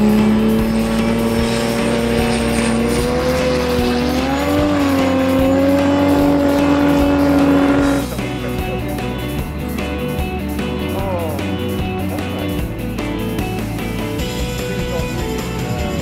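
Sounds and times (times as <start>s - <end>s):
jet boat engine racing: 0.0s - 16.0s.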